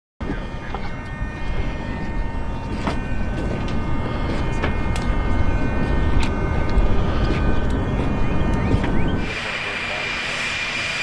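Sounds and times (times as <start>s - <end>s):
model aircraft engine whining: 0.2s - 11.0s.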